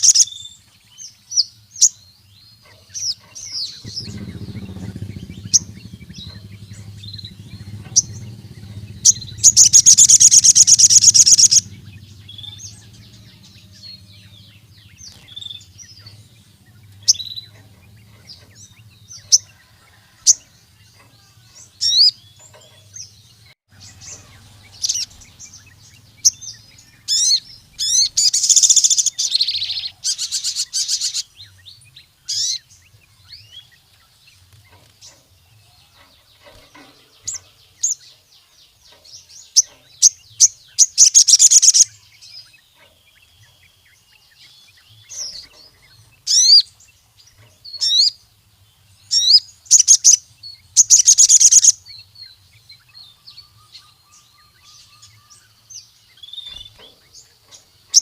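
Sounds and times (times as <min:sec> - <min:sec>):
bird twittering: 0:00.0 - 0:34.1, 0:34.7 - 0:48.2, 0:49.0 - 0:58.0
bird trilling and chirping: 0:00.0 - 0:58.0.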